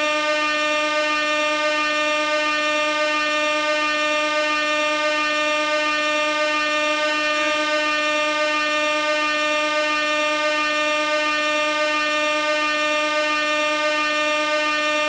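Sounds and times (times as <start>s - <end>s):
air horn blast: 0.0s - 15.0s.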